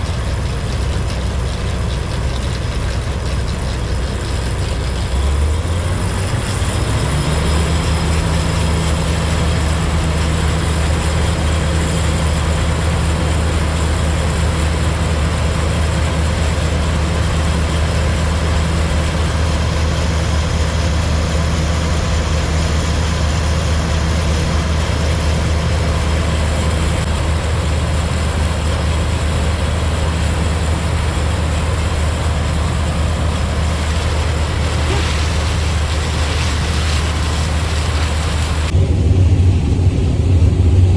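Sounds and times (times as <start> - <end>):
combine harvester diesel engine humming: 0.0 - 40.9.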